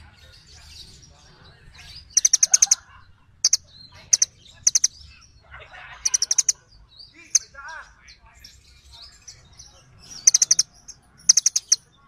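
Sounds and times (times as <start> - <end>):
songbird sharp high chirps: 0.0 - 5.4, 6.0 - 12.0
birds twittering: 0.0 - 12.0.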